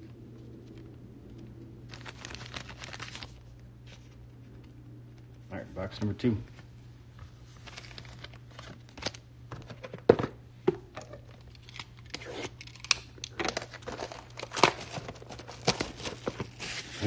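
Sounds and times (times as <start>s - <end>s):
plastic wrap crinkling: 0.0s - 5.4s, 6.5s - 9.9s, 11.0s - 17.0s.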